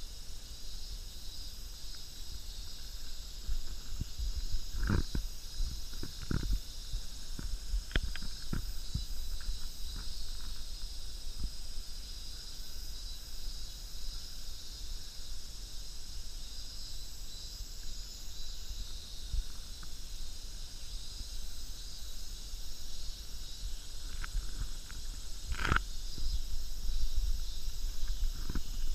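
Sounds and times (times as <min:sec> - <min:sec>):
insects chorus: 0:00.0 - 0:28.9.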